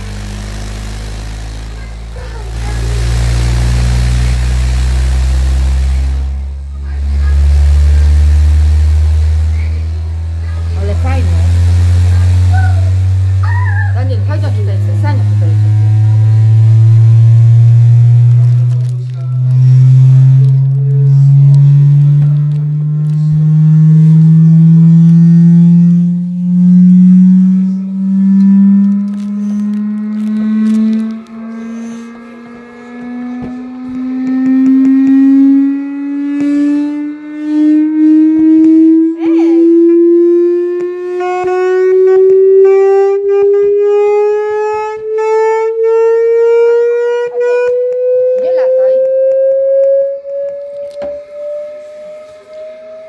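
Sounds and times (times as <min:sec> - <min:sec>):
rising low test tone: 0:00.0 - 0:53.0.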